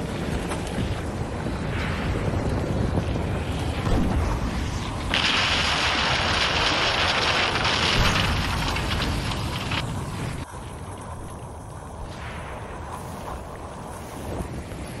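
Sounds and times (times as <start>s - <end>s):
lava fountains rumbling: 0.0s - 15.0s
wind buffeting microphone: 0.0s - 15.0s.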